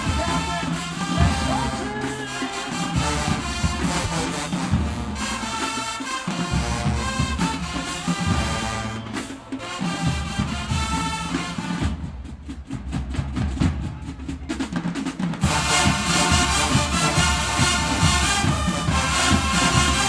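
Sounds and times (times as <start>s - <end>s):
brass playing chords: 0.0s - 11.9s, 15.4s - 20.0s
drumline playing: 0.0s - 20.0s.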